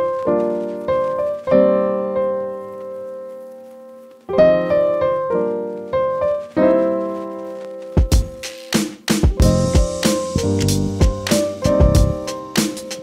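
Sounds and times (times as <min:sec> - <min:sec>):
piano chords: 0:00.0 - 0:08.5, 0:09.2 - 0:13.0.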